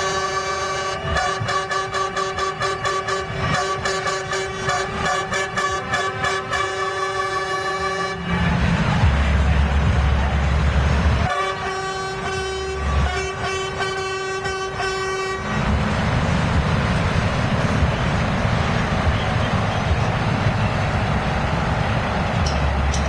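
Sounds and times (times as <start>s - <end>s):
truck horn blasts: 0.0s - 8.8s, 11.2s - 21.2s
truck engines rumbling: 0.0s - 23.0s.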